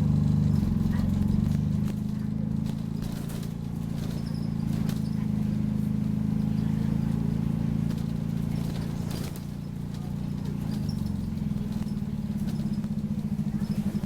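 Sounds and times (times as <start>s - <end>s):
bus engine running: 0.0s - 14.0s.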